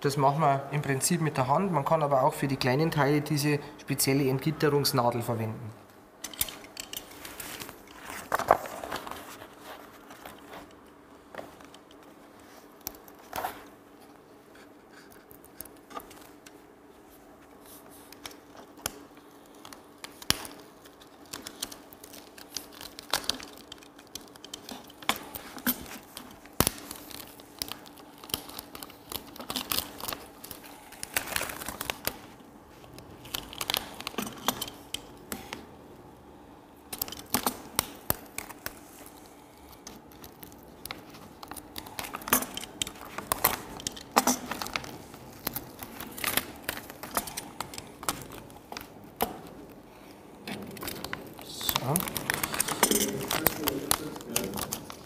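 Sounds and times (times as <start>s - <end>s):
vinyl film peeling crackle: 6.3s - 55.0s.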